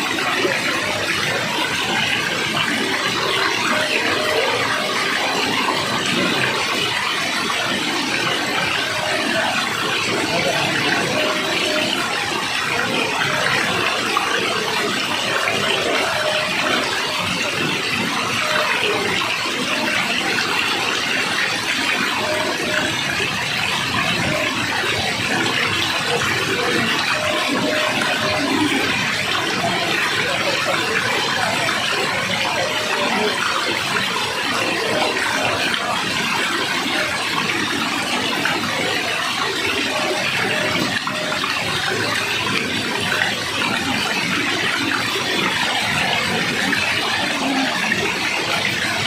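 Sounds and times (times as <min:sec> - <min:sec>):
falling water rushing: 0:00.0 - 0:49.0.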